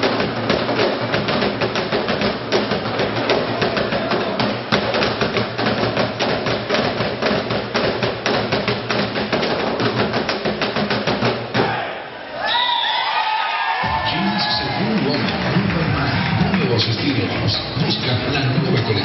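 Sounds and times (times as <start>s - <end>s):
sticks drumming on barrel drums: 0.0s - 11.8s, 13.8s - 19.0s.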